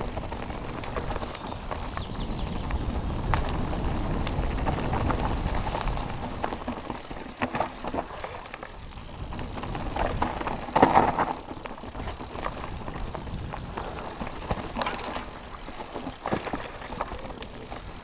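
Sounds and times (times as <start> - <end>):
bike clicking and rattling: 0.0 - 18.0
tyres crunching over dirt and stones: 0.0 - 18.0
wind rumbling on microphone: 0.0 - 18.0.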